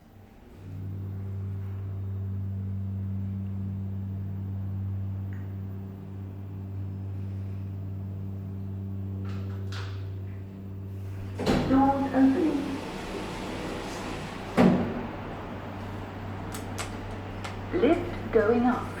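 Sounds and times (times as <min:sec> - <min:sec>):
lift machinery humming: 0:00.2 - 0:19.0.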